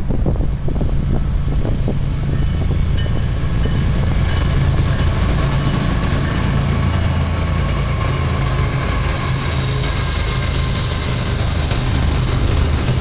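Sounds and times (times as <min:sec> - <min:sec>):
locomotive diesel engine drone: 0:00.0 - 0:13.0.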